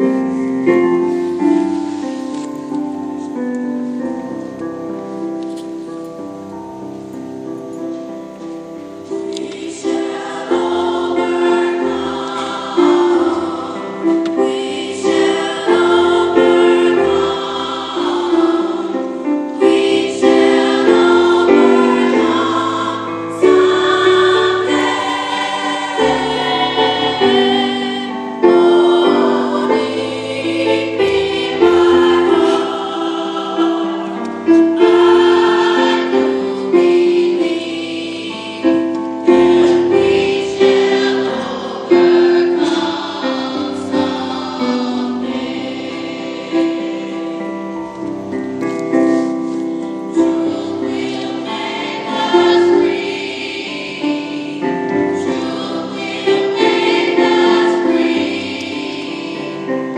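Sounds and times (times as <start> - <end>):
keyboard accompaniment: 0.0 - 59.9
youth choir singing: 9.0 - 59.9.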